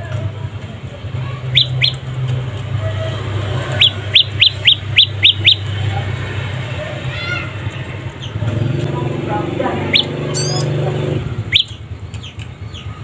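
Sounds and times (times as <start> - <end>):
songbird chirping: 1.0 - 6.7, 7.6 - 13.0.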